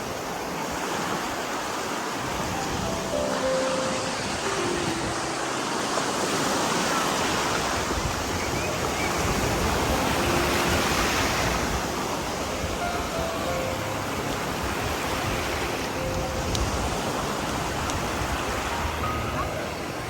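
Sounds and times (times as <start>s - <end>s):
surf washing onto beach: 0.0s - 20.0s.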